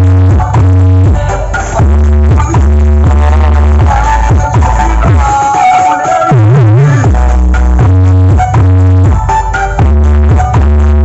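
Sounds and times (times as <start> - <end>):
loud bass-heavy electronic music: 0.0 - 11.0.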